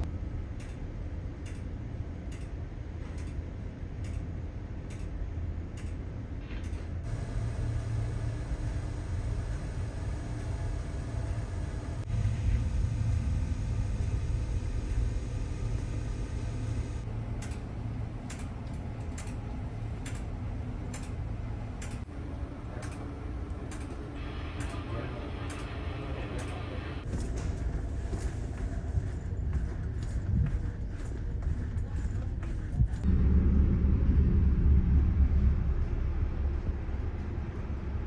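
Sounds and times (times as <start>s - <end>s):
ferry engine rumble: 0.0s - 38.0s.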